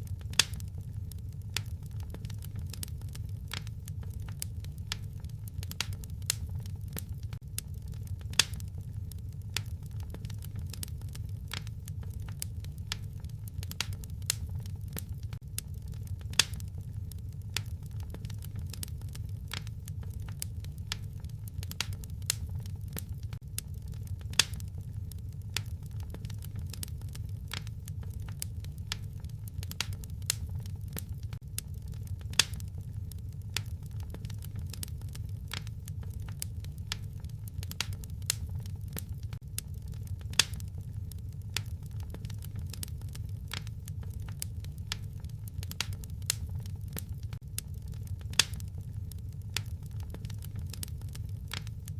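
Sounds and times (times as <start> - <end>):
low fire rumble: 0.0 - 51.9
wood fire crackling and popping: 0.0 - 51.9.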